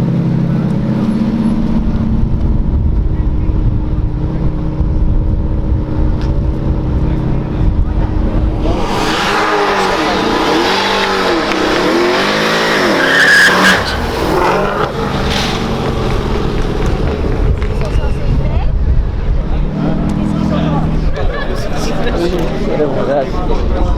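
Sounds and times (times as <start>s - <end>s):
sports car engine revving: 0.0s - 23.8s.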